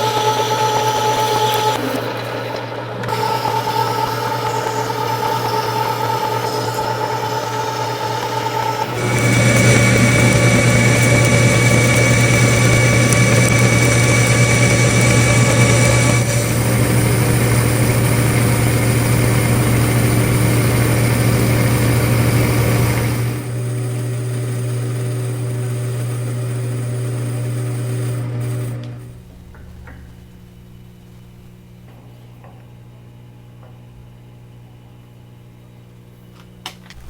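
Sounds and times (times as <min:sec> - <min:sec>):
machine tool motor hum: 0:00.0 - 0:32.6.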